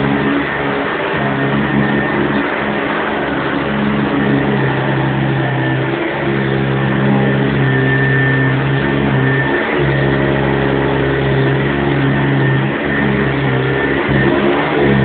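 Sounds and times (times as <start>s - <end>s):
vacuum cleaner motor hum: 0.0s - 15.0s.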